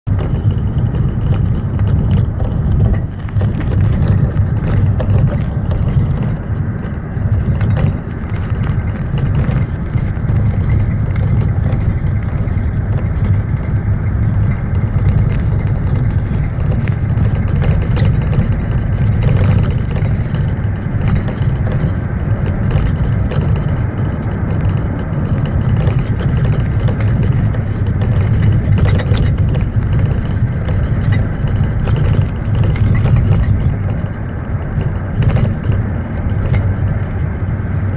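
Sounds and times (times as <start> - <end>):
road rumble: 0.0 - 37.9
suspension knocking: 0.0 - 37.9.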